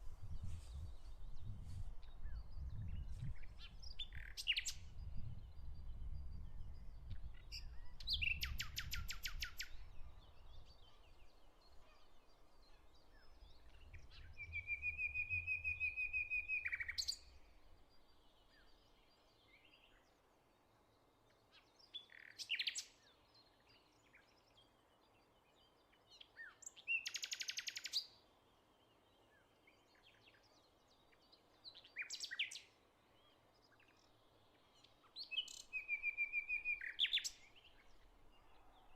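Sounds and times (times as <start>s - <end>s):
songbirds trilling and chirping: 0.0s - 38.9s.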